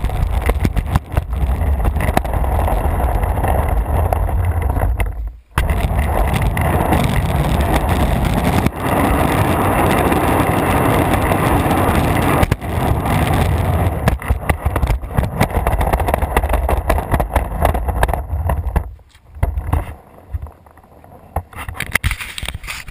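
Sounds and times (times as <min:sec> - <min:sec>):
skateboard wheels rolling on asphalt: 0:00.0 - 0:22.9
wind rumble on microphone: 0:00.0 - 0:22.9.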